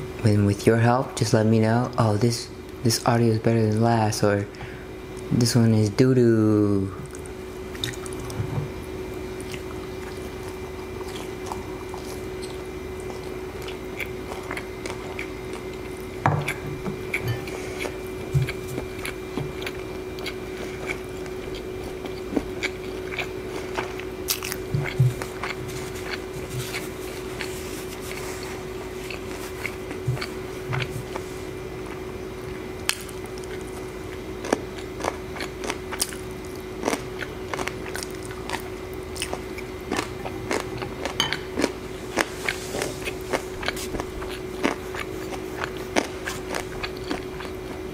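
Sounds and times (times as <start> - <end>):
steady background hum: 0.0 - 47.9
chewing and biting: 7.0 - 8.4, 9.4 - 47.9.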